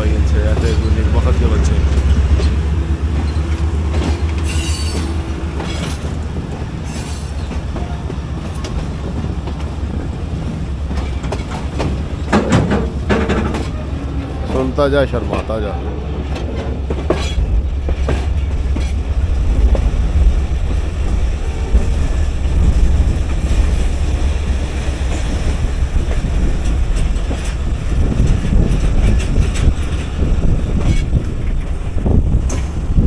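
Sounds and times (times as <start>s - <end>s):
train rumbling on rails: 0.0s - 33.0s
train wheels clacking: 0.0s - 33.0s.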